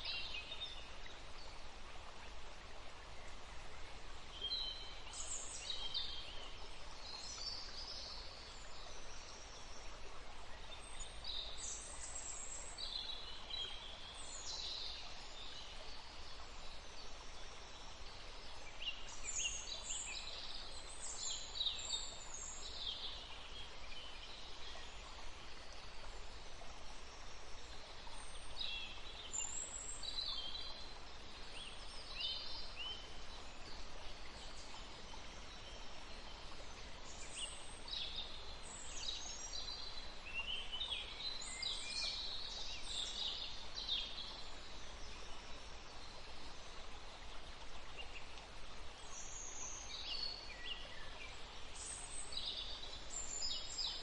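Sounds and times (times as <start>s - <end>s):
stream running: 0.0s - 54.0s
songbirds singing: 3.1s - 54.0s.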